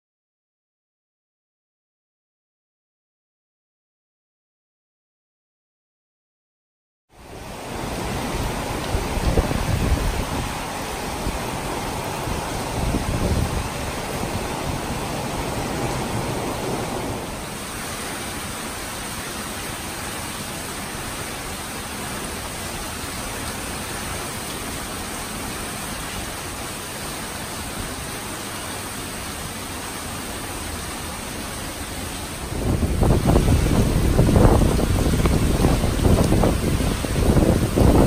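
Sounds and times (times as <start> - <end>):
storm rain and wind hiss: 7.1 - 38.0.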